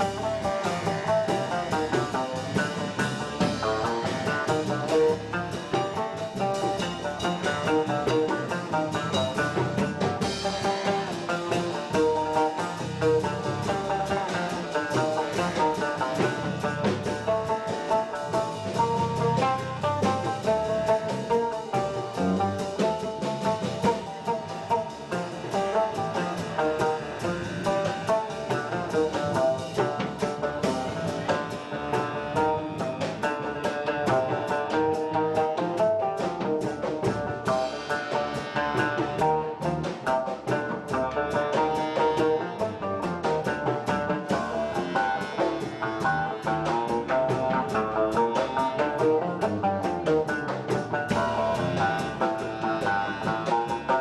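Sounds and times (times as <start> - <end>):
drum kit: 0.0 - 54.0
electric bass: 0.0 - 54.0.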